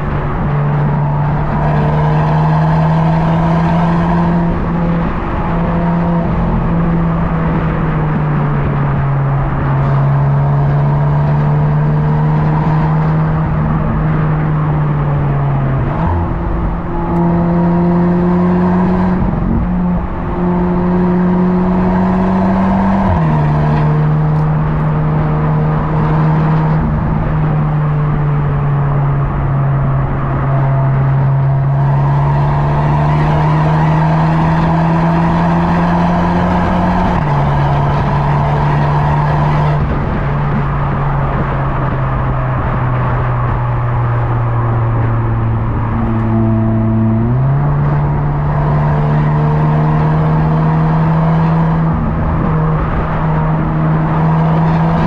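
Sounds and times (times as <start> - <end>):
car engine droning: 0.0 - 55.0
road noise: 0.0 - 55.0.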